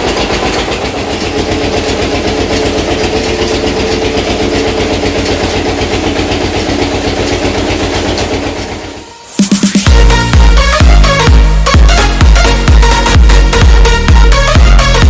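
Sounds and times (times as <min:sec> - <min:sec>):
oil mill machinery pulsing: 0:00.0 - 0:15.0.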